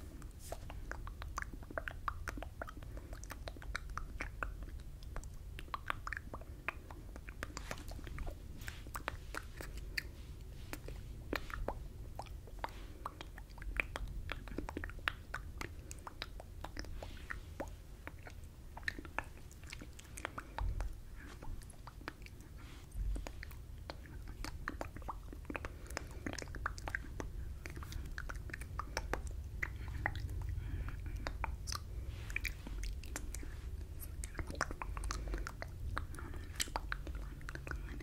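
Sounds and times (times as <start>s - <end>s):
lip smacks and tongue clicks: 0.0s - 38.0s.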